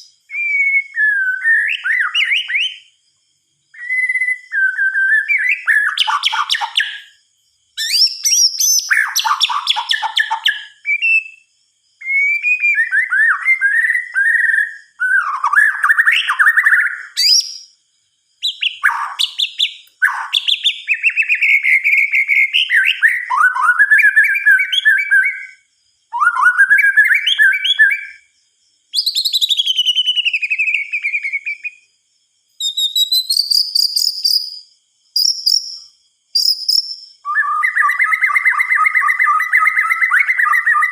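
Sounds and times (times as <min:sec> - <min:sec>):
bird singing whistled phrases: 0:00.0 - 0:03.0, 0:03.7 - 0:07.2, 0:07.8 - 0:17.8, 0:18.4 - 0:28.3, 0:28.9 - 0:31.8, 0:32.6 - 0:40.9.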